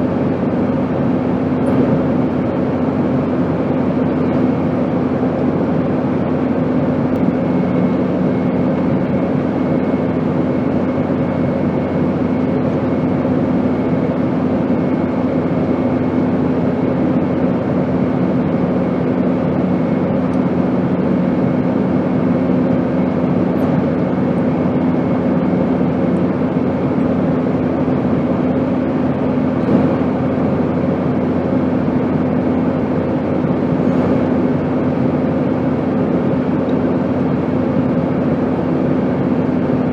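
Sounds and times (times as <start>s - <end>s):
airplane noise: 0.0s - 39.9s.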